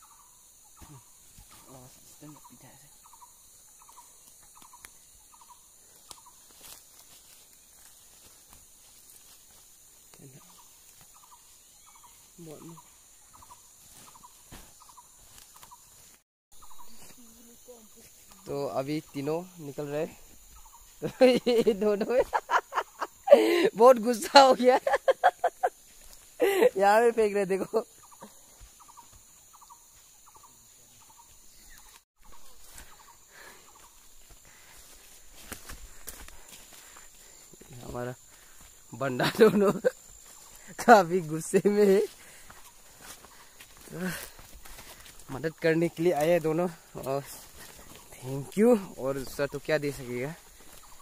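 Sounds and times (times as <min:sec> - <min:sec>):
quiet forest background: 0:00.0 - 0:51.0.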